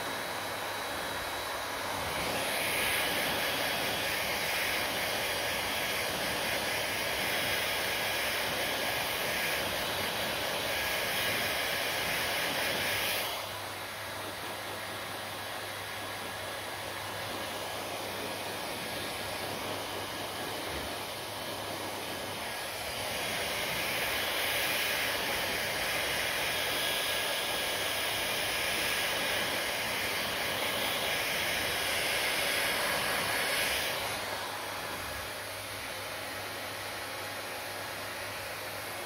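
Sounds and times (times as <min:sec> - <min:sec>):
hair dryer blowing: 0:00.0 - 0:39.0.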